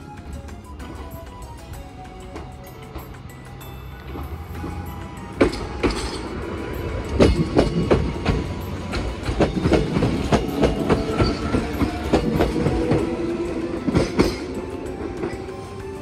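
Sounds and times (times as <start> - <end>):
train rumble: 0.0 - 16.0
train wheels clacking: 0.0 - 16.0.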